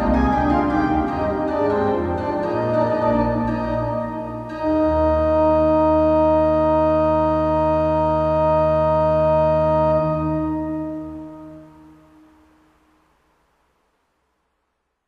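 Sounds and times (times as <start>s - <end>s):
church organ chord: 0.0s - 12.4s.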